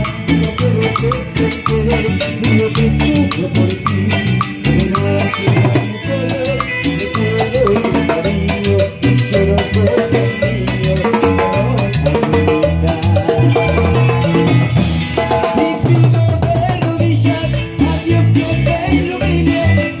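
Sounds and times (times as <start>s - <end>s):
dense percussion rhythm: 0.0s - 19.8s
latin dance band playing: 0.0s - 20.0s
moving bass line: 0.0s - 20.0s.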